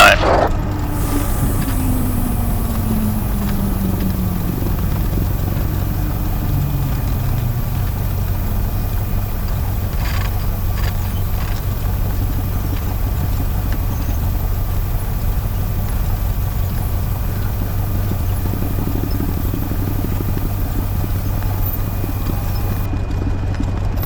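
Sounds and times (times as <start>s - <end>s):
airplane engine drone in cabin: 0.0s - 24.0s.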